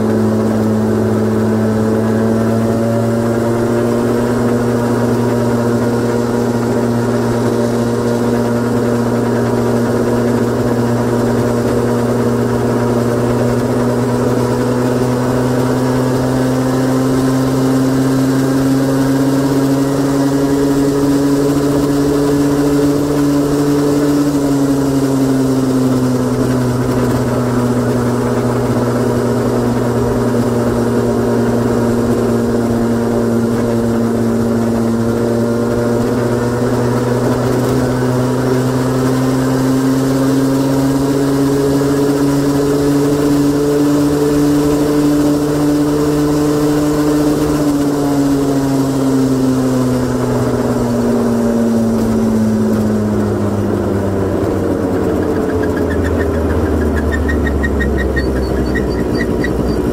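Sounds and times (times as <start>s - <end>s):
scooter engine idling: 0.0s - 59.9s.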